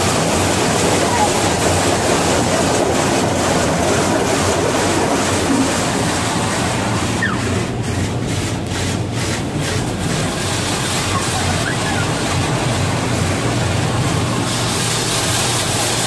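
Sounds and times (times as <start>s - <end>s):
car wash water jets spraying: 0.0s - 16.0s.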